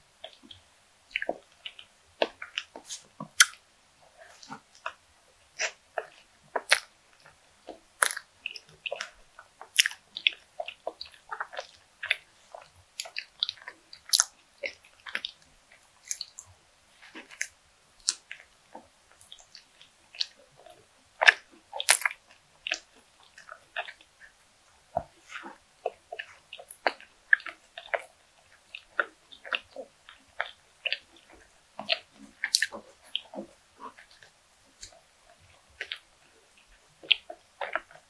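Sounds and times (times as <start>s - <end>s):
person chewing with mouth smacks: 0.2s - 38.0s.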